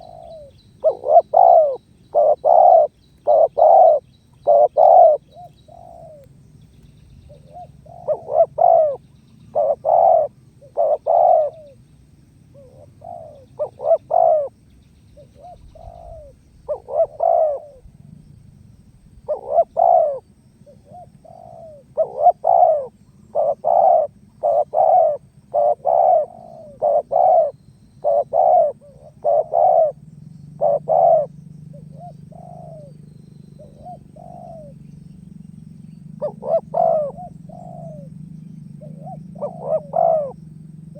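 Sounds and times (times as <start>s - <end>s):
dove cooing: 0.0s - 6.4s, 7.2s - 14.6s, 15.2s - 18.2s, 19.1s - 35.0s, 35.6s - 40.9s
faint low hum: 0.0s - 40.9s.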